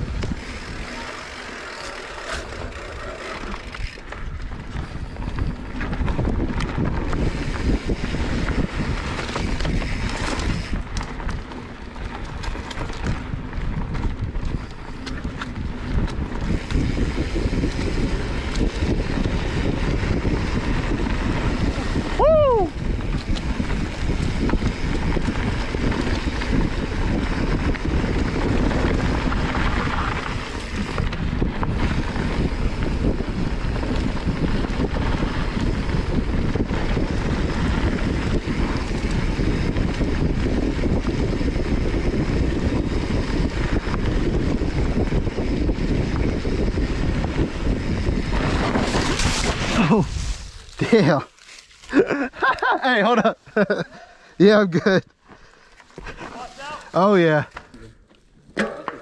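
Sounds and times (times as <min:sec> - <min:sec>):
wind on microphone: 0:00.0 - 0:01.2, 0:02.2 - 0:51.1
bike tyres rumbling on dirt: 0:00.0 - 0:59.0.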